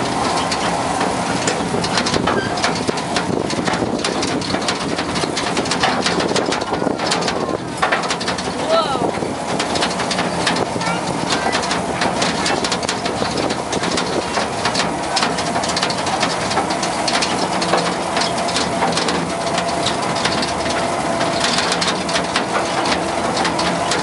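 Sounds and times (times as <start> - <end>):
train car rattling on rails: 0.0 - 24.0.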